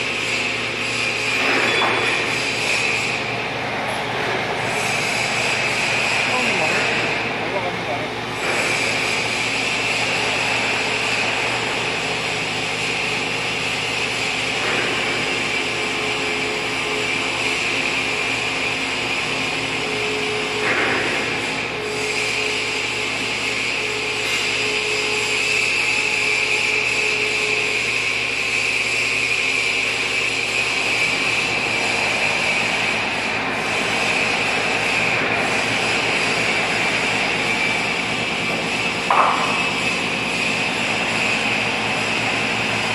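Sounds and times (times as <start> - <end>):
boring mill whirring: 0.0 - 42.9.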